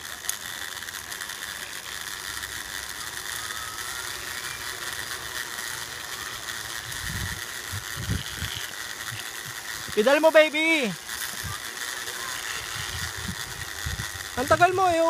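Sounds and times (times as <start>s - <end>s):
cable bicycle ratcheting tick: 0.0s - 15.0s
faint thin whine: 0.0s - 15.0s.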